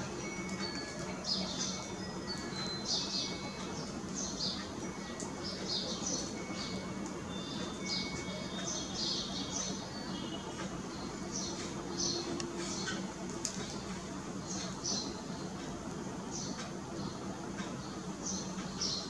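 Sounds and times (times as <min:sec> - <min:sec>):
birds chirping: 0:00.0 - 0:19.0
low steady hum: 0:00.0 - 0:19.0.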